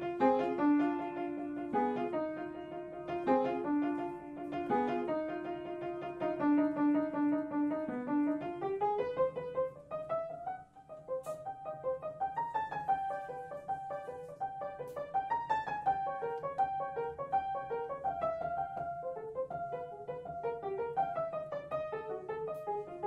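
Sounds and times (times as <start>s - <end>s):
solo piano running notes: 0.0s - 23.0s.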